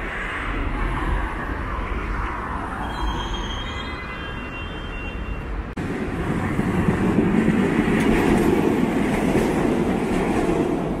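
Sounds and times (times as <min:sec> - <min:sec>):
passenger train rumbling past: 0:00.0 - 0:11.0.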